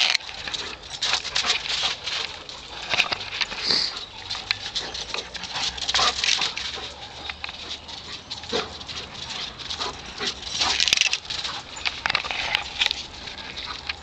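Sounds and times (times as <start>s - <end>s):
dog paws pattering on dirt: 0.0s - 14.0s.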